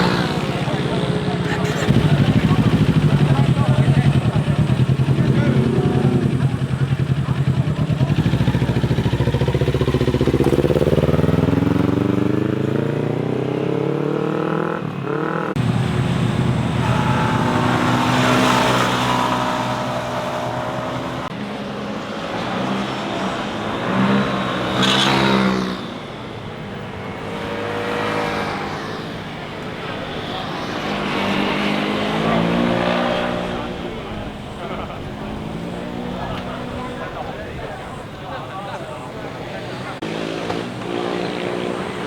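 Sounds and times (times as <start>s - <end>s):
motorcycles accelerating past: 0.0s - 42.0s.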